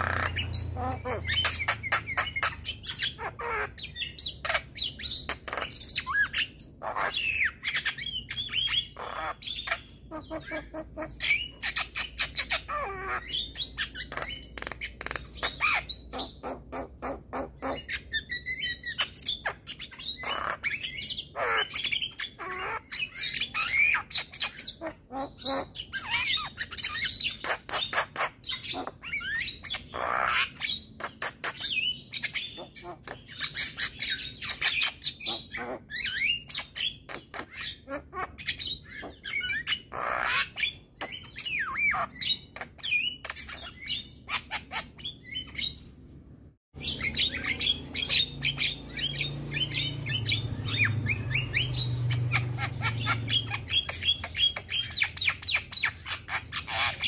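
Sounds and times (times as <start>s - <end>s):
bird song with clicks and whistles: 0.0s - 45.9s, 46.8s - 57.0s.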